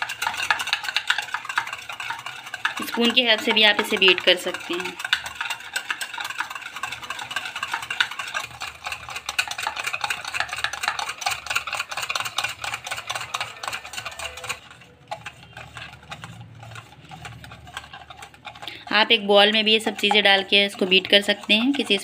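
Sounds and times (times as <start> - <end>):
spoon clinking in metal mug: 0.0 - 22.0.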